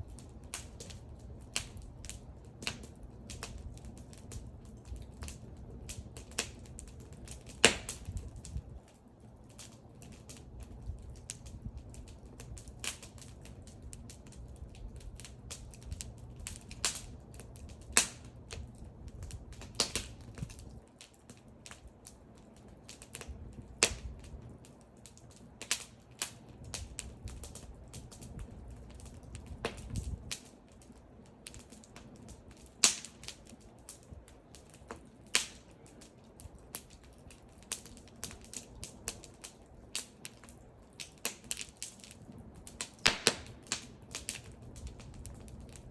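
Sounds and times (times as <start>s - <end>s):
low rumble of flames: 0.0s - 45.9s
wood fire crackling: 0.0s - 45.9s.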